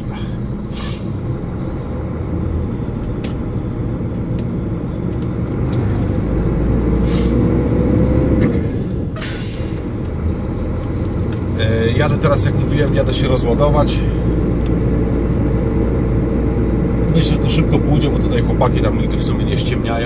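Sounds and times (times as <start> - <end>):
truck diesel engine accelerating: 0.0 - 20.0.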